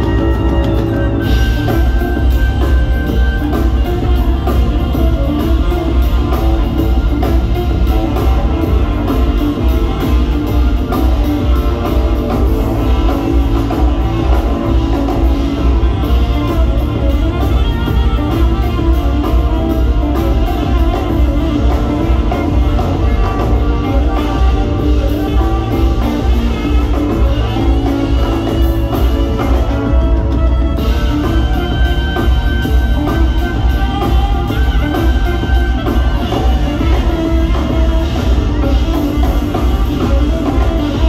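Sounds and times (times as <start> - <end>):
big band playing techno jazz: 0.0 - 41.0.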